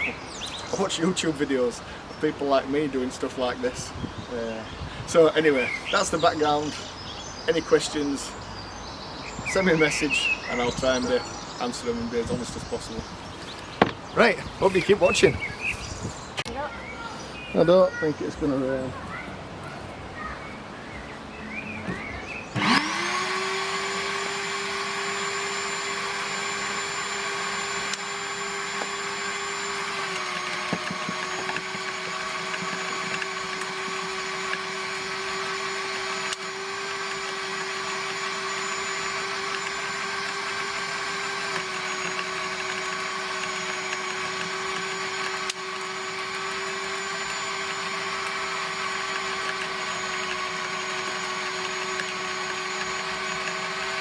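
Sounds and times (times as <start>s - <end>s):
wood chipper motor whine: 3.7s - 15.9s, 21.6s - 54.0s.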